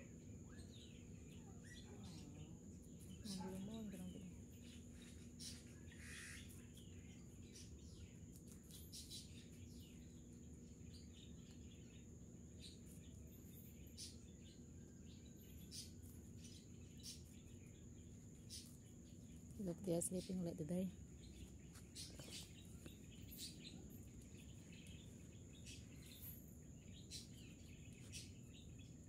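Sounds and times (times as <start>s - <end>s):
bird chirps: 0.0s - 29.0s.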